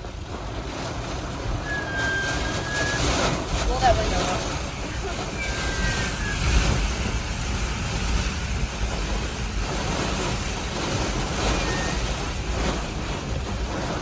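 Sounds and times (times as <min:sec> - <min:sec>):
hurricane winds blowing hard: 0:00.0 - 0:14.0.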